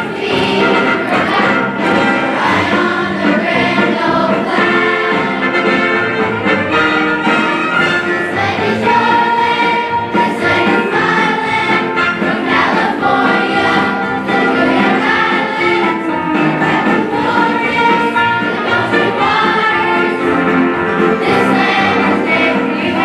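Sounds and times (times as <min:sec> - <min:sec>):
children's choir singing: 0:00.0 - 0:23.0
instrumental accompaniment: 0:00.0 - 0:23.0.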